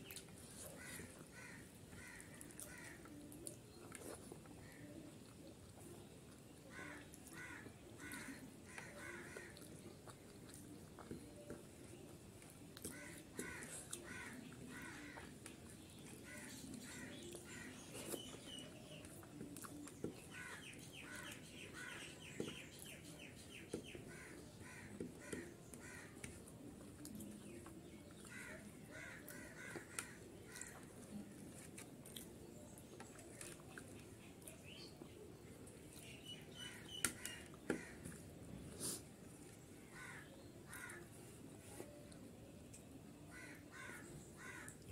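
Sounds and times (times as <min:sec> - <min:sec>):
person eating by hand: 0:00.0 - 0:44.9.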